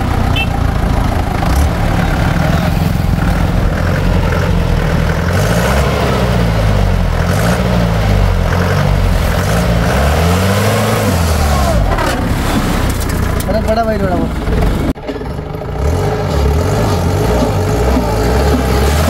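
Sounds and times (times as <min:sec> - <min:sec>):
jeep engine revving: 0:00.0 - 0:15.0, 0:15.6 - 0:19.0.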